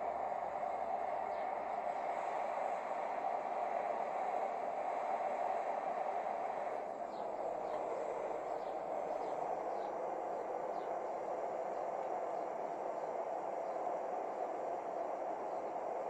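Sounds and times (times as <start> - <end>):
torch flame hissing: 0.0 - 16.0.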